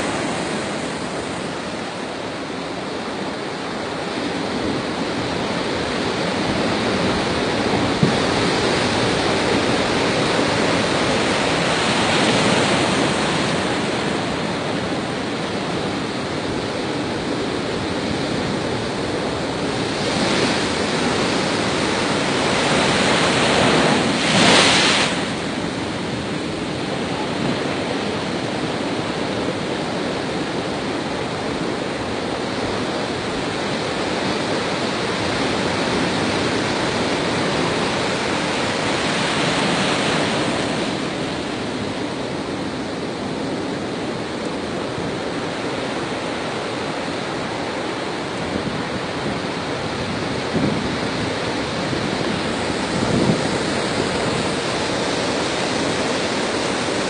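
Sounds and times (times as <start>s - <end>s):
storm surf breaking against pier: 0.0s - 57.0s.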